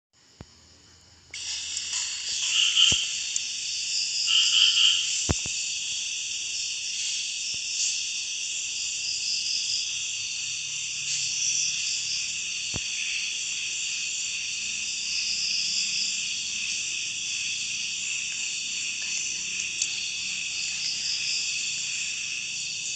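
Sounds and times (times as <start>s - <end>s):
night insects and frogs chorus: 0.2s - 22.9s.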